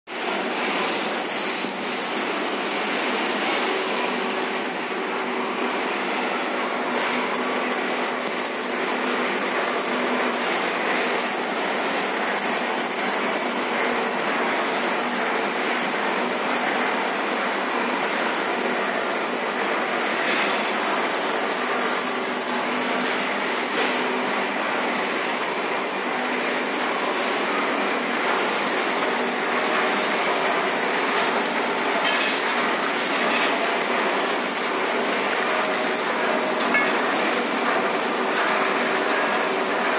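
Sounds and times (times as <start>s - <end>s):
conveyor mechanical rattle: 0.2s - 39.9s.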